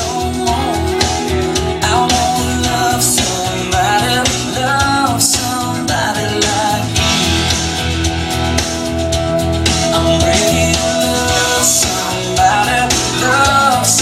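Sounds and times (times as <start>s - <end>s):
person singing: 0.0s - 14.0s
rock band playing: 0.0s - 14.0s.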